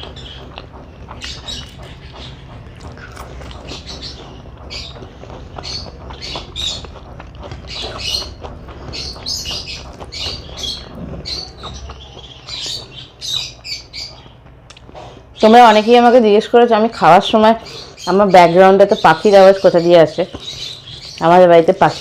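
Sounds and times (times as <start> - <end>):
birds chirping and squawking: 0.0 - 22.0.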